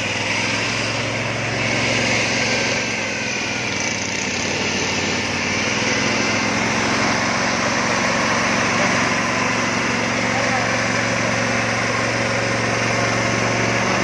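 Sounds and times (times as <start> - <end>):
petrol engine running steadily: 0.0 - 14.0.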